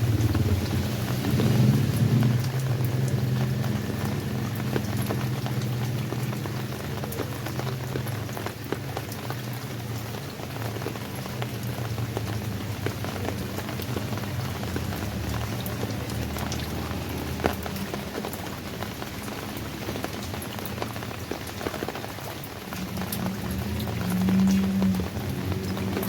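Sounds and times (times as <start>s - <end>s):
rain falling: 0.0s - 26.0s
raindrops ticking on a surface: 0.0s - 26.0s.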